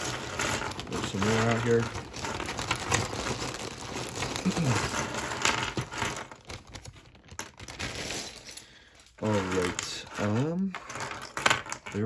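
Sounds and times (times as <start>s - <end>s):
plastic bag crinkling: 0.0s - 12.0s
plastic pieces clattering: 0.0s - 12.0s.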